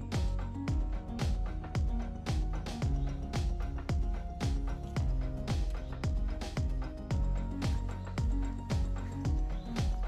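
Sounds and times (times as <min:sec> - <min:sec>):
background music with kick drum: 0:00.0 - 0:10.0.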